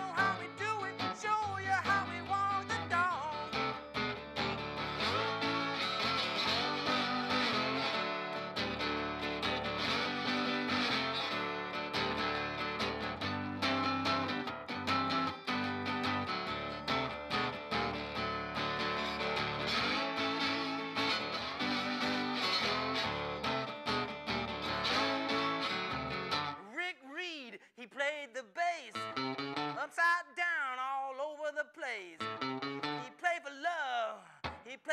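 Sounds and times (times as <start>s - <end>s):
acoustic guitar blues strumming: 0.0s - 34.9s.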